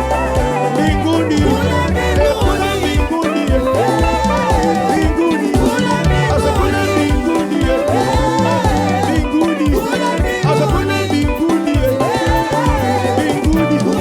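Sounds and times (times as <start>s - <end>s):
gospel band playing: 0.0s - 14.0s
person singing: 0.0s - 14.0s
steady drum beat: 0.0s - 14.0s.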